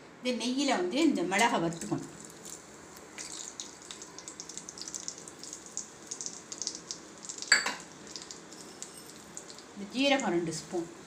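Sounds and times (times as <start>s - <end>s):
ghee sizzling and crackling: 1.5s - 11.0s.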